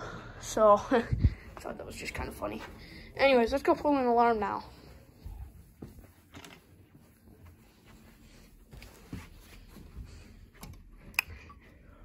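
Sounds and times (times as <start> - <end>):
footsteps on carpet: 1.3 - 11.0.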